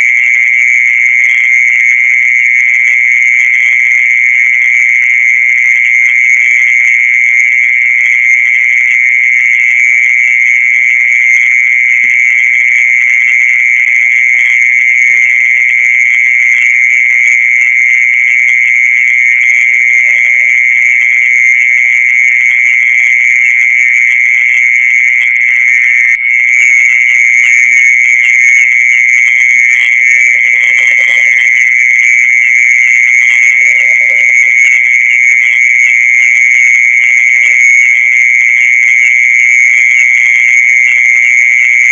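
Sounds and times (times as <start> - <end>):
cricket high-pitched trill: 0.0 - 41.9.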